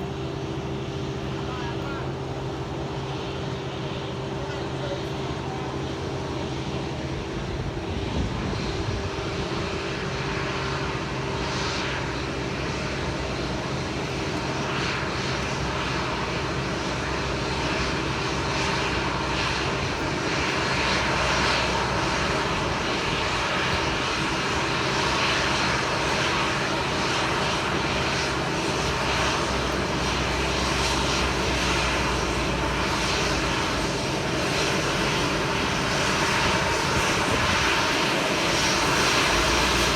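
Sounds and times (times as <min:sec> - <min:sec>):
airplane engines running: 0:00.0 - 0:39.9.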